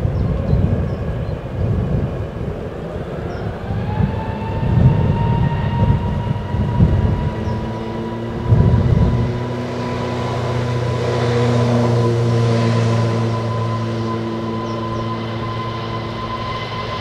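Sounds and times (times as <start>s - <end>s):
heavy low rumble: 0.0s - 17.0s
jet engine whine: 0.0s - 17.0s.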